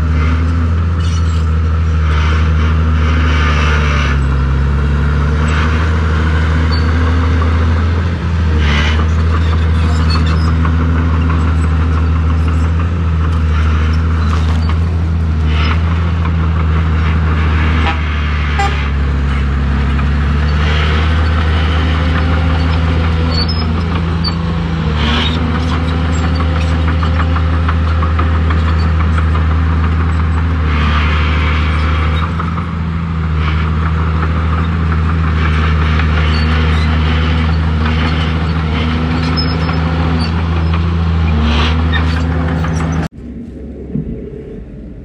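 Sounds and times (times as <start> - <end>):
bulldozer diesel engine: 0.0 - 45.0.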